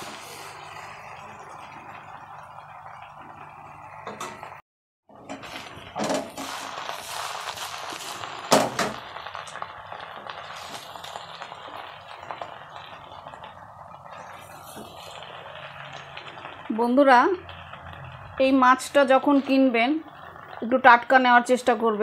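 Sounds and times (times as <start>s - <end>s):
food sizzling in oil: 0.0s - 4.6s, 5.2s - 22.0s.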